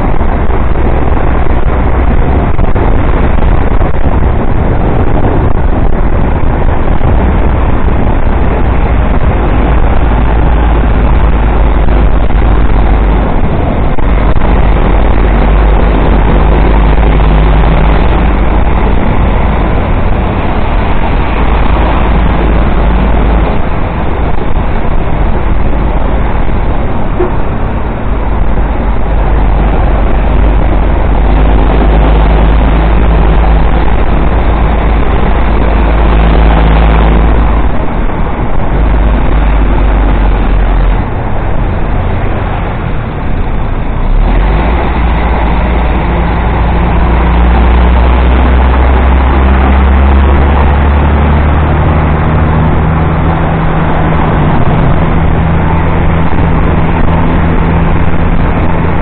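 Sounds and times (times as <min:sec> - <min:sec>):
bus engine: 0:00.0 - 0:59.0
motorcycle engine running: 0:00.0 - 0:59.0
wind and tyre noise: 0:00.0 - 0:59.0.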